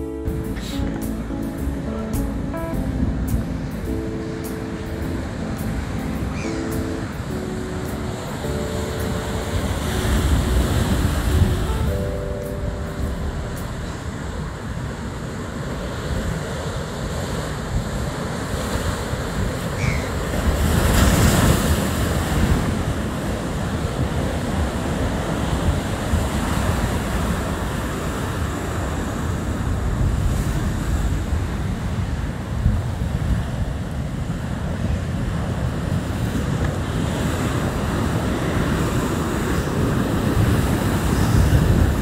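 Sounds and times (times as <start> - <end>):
wind buffeting microphone: 2.1 - 12.1, 12.7 - 42.0
sea surf breaking on rocks: 3.3 - 42.0.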